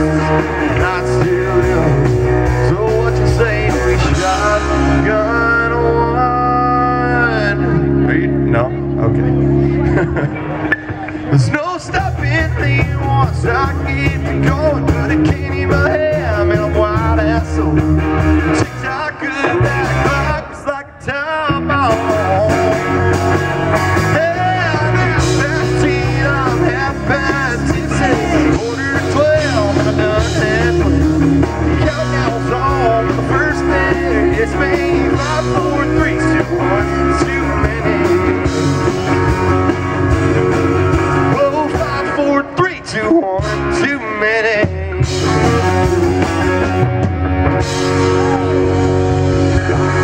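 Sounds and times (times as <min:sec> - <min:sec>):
man singing lead vocal: 0:00.0 - 0:10.0, 0:11.3 - 0:47.0
country rock band playing: 0:00.0 - 0:50.0.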